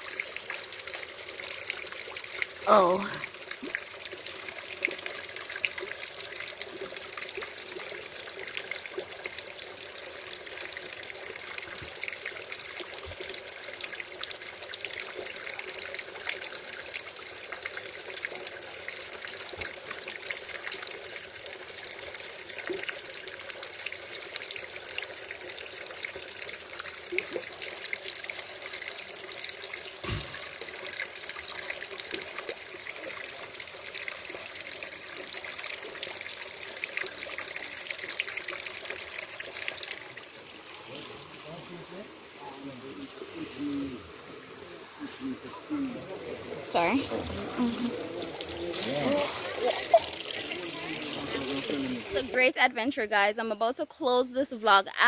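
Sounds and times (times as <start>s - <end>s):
water pouring and splashing: 0.0s - 52.5s.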